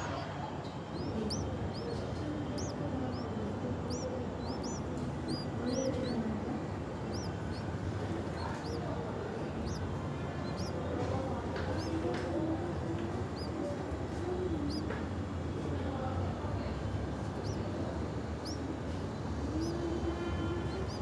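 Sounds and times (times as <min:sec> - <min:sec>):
chicks chirping: 0:00.0 - 0:14.9, 0:17.2 - 0:21.0
low background hum: 0:00.0 - 0:21.0.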